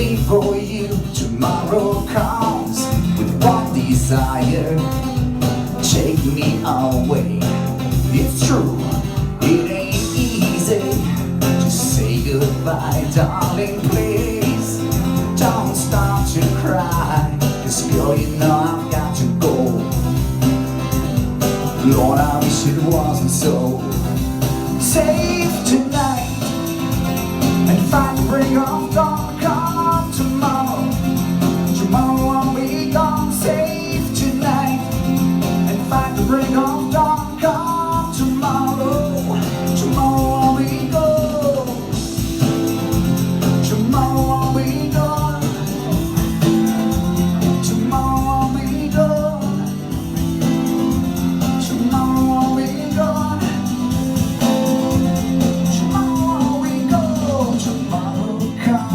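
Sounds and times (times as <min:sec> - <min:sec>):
person singing: 0:00.0 - 0:20.5, 0:21.7 - 0:50.2, 0:51.0 - 0:58.9
live rock band playing: 0:00.0 - 0:58.9.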